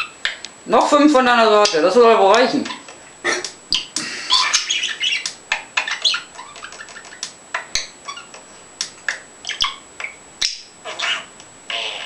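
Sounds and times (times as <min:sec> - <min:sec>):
birds chirping and squawking: 0:00.0 - 0:00.4, 0:01.1 - 0:12.0.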